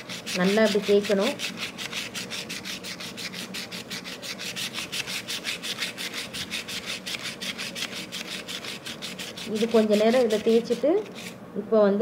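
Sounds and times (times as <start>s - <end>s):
sandpaper rasping on metal blade: 0.0s - 11.4s.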